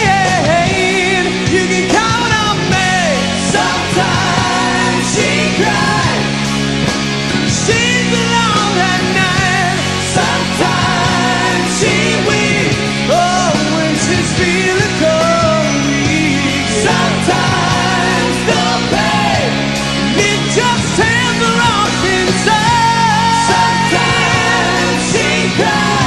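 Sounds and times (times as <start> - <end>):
bass guitar: 0.0 - 26.0
drums: 0.0 - 26.0
electric guitars: 0.0 - 26.0
people singing: 0.0 - 26.0.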